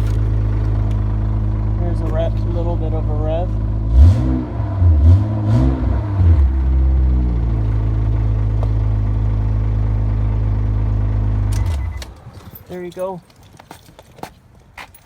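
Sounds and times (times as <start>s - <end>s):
car engine revving and idling: 0.0s - 12.2s.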